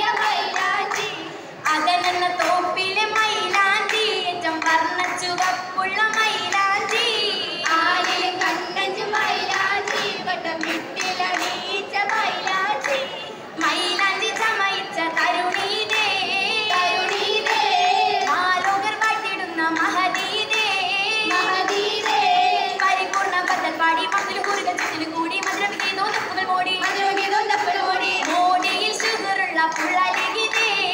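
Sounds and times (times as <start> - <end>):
girls singing in unison: 0.0 - 30.9
rhythmic hand-clapping: 0.0 - 30.9.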